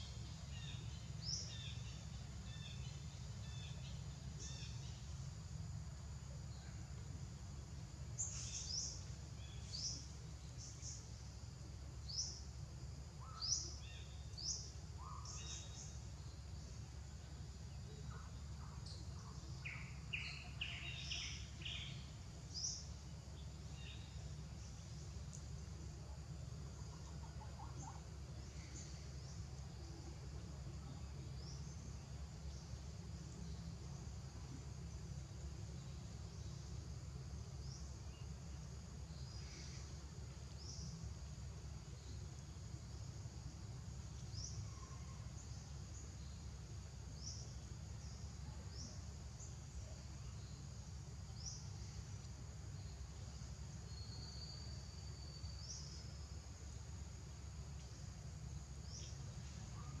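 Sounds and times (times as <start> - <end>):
low steady rumble: 0.0 - 60.0.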